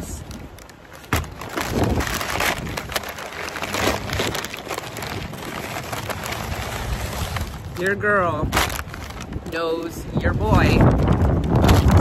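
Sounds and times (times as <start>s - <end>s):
sharp paper crackle: 0.0s - 7.8s, 8.4s - 9.9s, 10.8s - 12.0s
paper bag crinkling: 0.0s - 10.0s.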